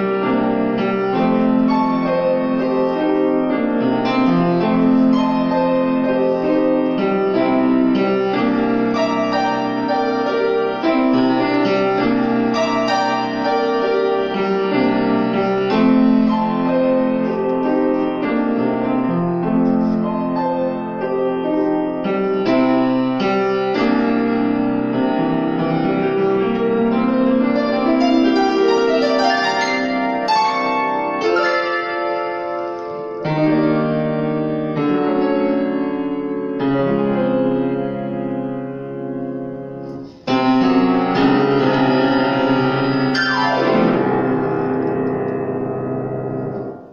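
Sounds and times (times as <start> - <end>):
grand piano playing: 0.0 - 46.9.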